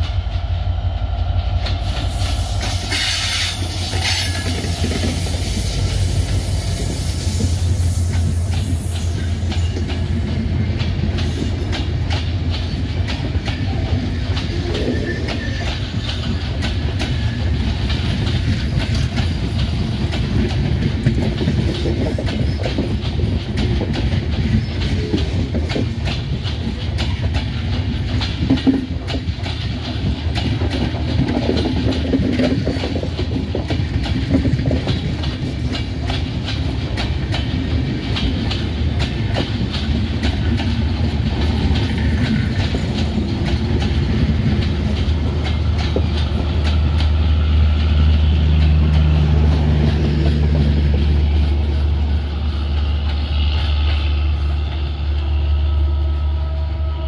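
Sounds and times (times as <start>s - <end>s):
train coaches rumbling past: 0.0s - 57.0s
wheel clicks and clatter on rails: 6.9s - 55.3s.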